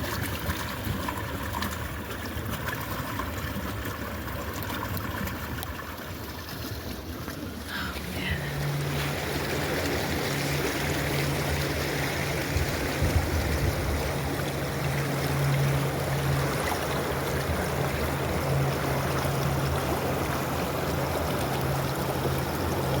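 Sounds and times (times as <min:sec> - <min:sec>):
low steady hum: 0:00.0 - 0:23.0
stream flowing and trickling: 0:00.0 - 0:23.0.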